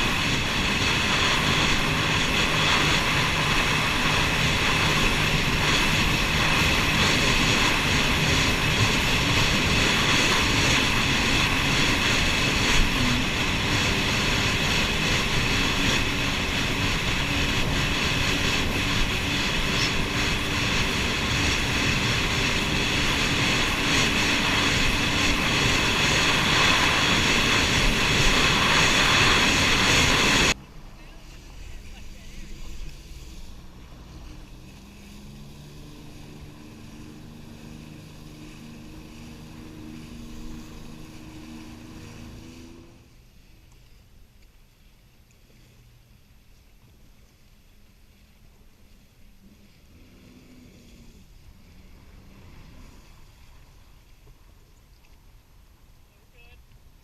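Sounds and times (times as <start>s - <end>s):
jet ski engine droning: 0.0s - 57.0s.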